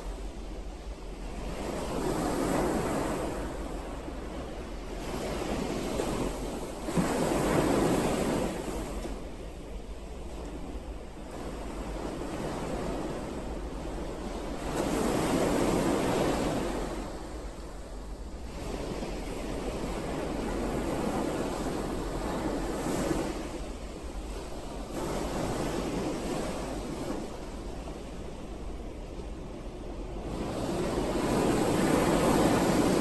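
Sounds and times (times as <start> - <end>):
ocean waves washing in: 0.0 - 33.0.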